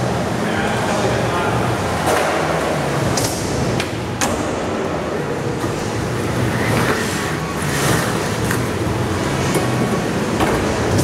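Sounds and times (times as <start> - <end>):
skateboard wheels rolling on concrete: 1.6 - 11.0.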